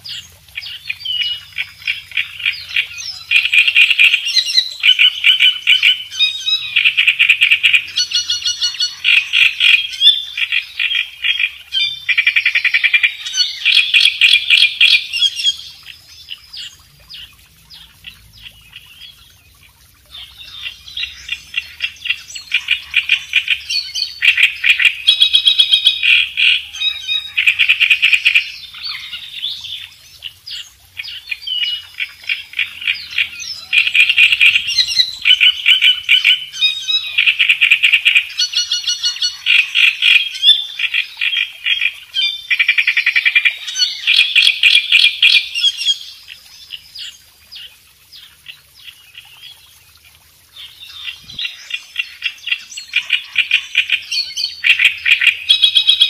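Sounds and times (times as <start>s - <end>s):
reed warbler harsh song: 0.0s - 49.8s, 50.5s - 56.0s.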